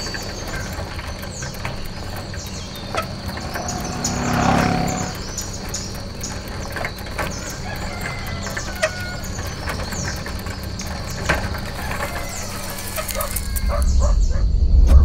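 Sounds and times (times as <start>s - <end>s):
high insect drone: 0.0s - 14.1s
birds chirping: 0.0s - 14.4s.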